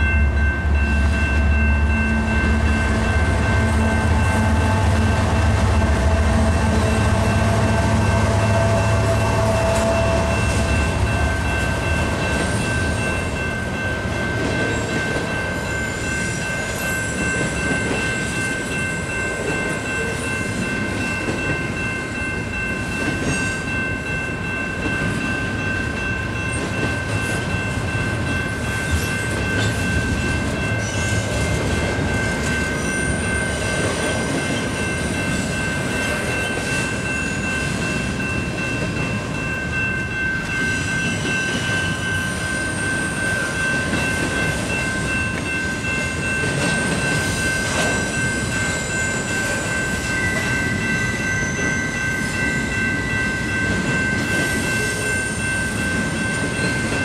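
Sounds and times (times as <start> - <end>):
crossing bell ringing: 0.0 - 57.0
diesel locomotive engine humming: 0.0 - 57.0
train wheels rumbling and clattering: 0.0 - 57.0.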